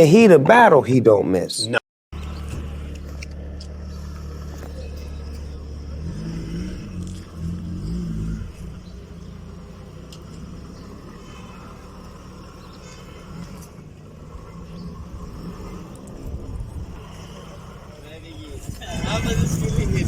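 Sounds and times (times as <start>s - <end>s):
car engine idling: 2.1s - 20.0s.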